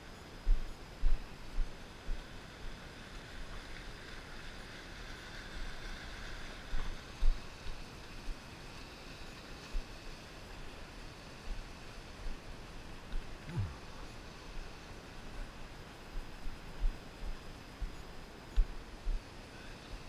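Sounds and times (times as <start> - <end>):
stream rushing over rocks: 2.1 - 20.0.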